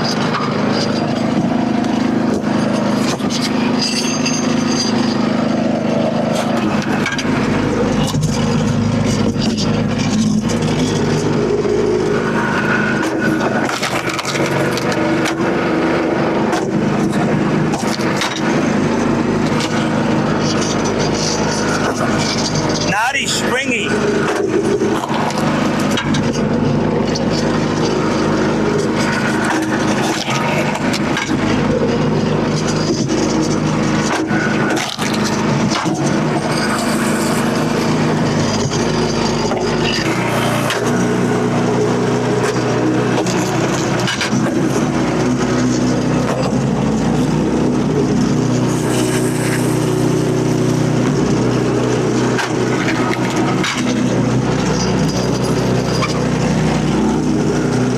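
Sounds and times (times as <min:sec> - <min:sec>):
small gas engine running: 0:00.0 - 0:57.9.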